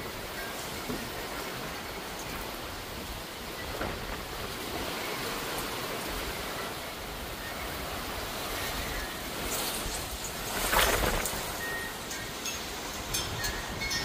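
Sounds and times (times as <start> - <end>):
steady rain falling: 0.0 - 13.4.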